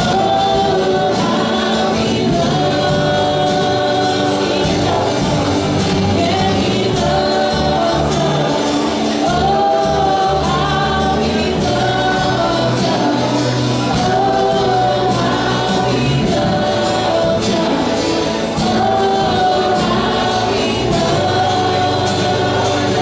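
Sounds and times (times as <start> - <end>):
choir singing: 0.0 - 23.0
gospel band playing: 0.0 - 23.0
steady bass: 0.0 - 23.0.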